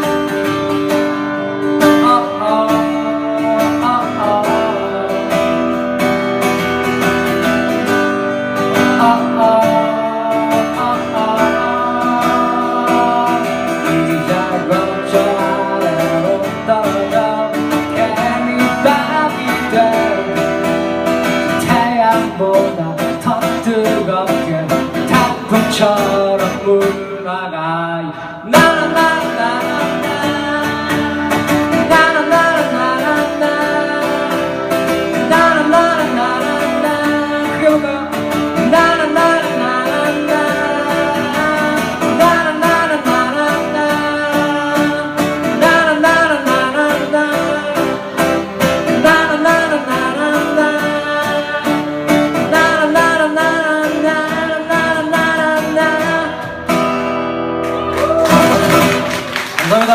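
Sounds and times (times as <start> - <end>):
man singing: 0.0 - 56.8, 59.6 - 59.9
strummed acoustic guitar: 0.0 - 59.9.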